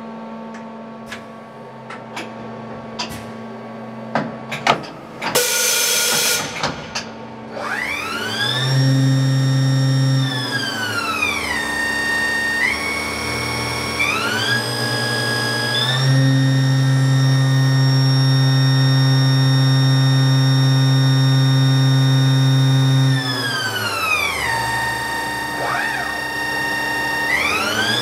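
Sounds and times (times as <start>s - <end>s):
machine spindle whine: 5.3s - 28.0s.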